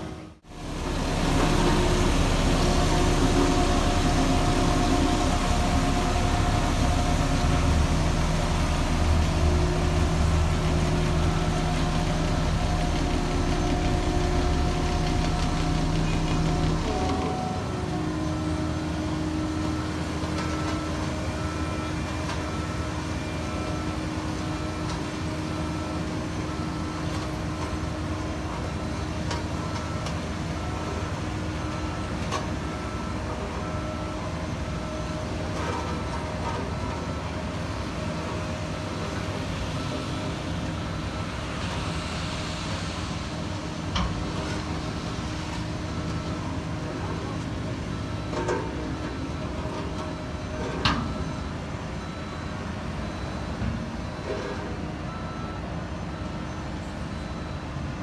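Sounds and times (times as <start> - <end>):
diesel machinery running: 0.0 - 58.0.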